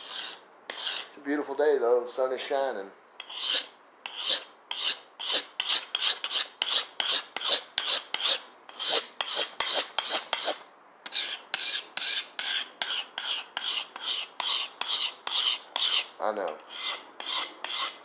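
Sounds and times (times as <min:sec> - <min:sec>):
knife scraping on sharpening stone: 0:00.0 - 0:01.2, 0:03.2 - 0:18.0.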